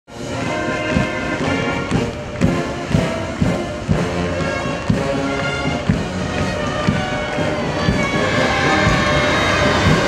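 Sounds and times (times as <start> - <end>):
music with steady beat: 0.1 - 10.0.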